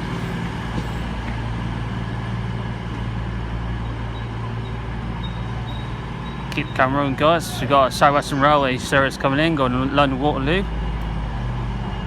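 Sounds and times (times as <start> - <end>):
train diesel engines idling: 0.0 - 12.0.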